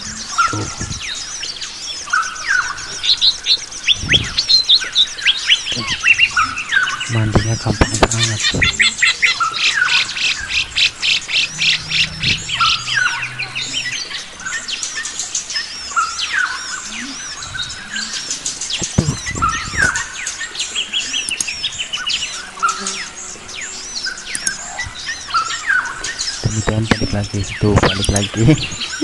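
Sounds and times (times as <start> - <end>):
birds calling and singing: 0.0 - 29.0
rapid repeated bird chirps: 0.0 - 29.0.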